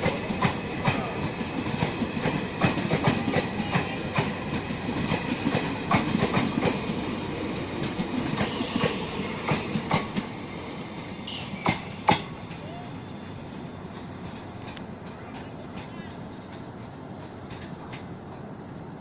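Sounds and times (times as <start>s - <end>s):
train wheels clattering: 0.0s - 12.6s, 13.8s - 18.5s.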